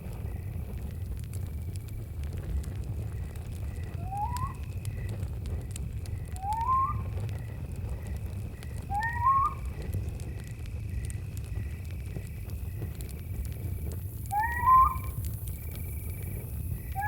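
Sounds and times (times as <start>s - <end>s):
campfire crackling: 0.0s - 17.0s
crickets chirping: 0.2s - 17.0s.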